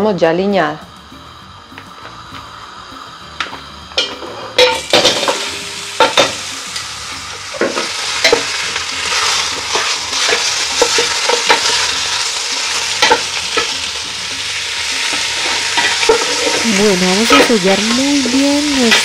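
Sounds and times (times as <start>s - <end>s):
meat sizzling in hot oil: 0.9s - 19.0s.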